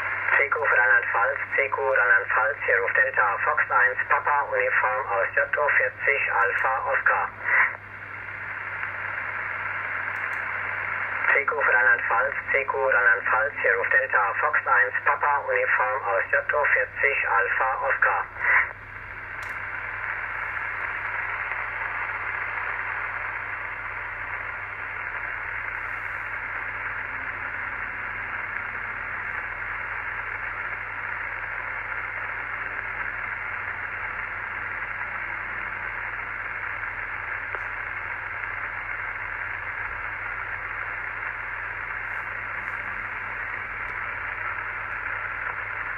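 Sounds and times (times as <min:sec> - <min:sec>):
low steady hum: 0:00.0 - 0:45.9
radio speaker hiss: 0:00.0 - 0:45.9.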